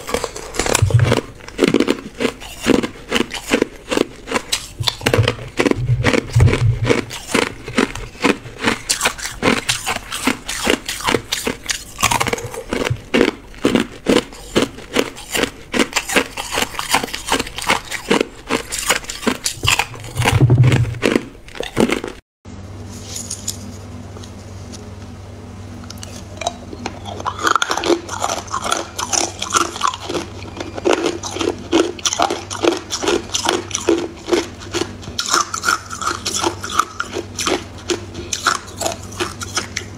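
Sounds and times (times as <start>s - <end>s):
ice cubes crunching while chewed: 0.0s - 22.2s, 26.0s - 39.9s
steady low hum: 0.0s - 39.9s.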